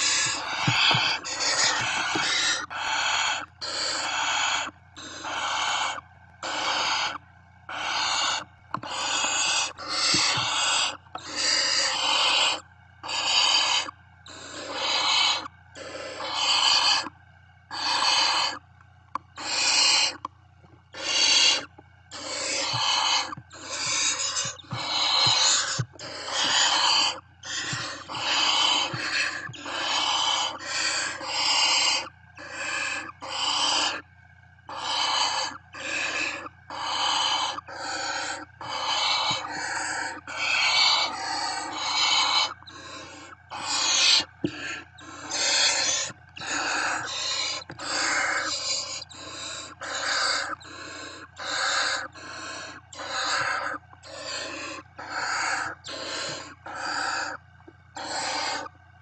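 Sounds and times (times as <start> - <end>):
owl chicks hissing calls: 0.0 - 17.1, 17.7 - 18.7, 19.3 - 20.2, 20.9 - 34.0, 34.7 - 58.7.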